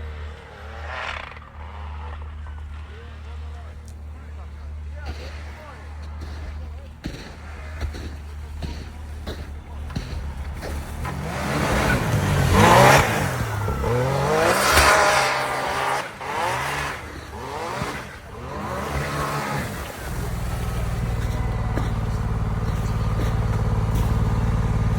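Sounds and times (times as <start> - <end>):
engine revving and idling: 0.0 - 24.9.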